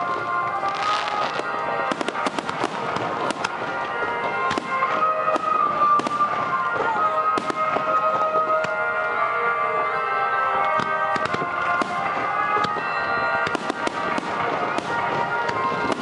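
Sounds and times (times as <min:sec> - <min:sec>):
fireworks bangs and crackling: 0:00.0 - 0:09.7, 0:10.6 - 0:16.0
steady sustained tones: 0:00.0 - 0:16.0.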